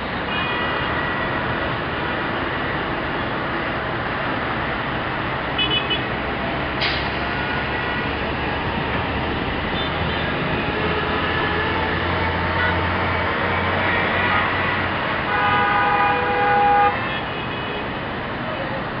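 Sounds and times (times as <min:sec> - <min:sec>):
passing vehicles roaring: 0:00.0 - 0:19.0
heavy vehicle engine hum: 0:01.1 - 0:16.9.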